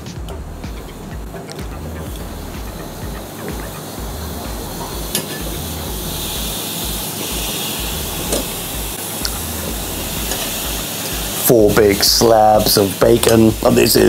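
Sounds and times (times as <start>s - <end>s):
bacon sizzling in a pan: 2.5s - 14.0s.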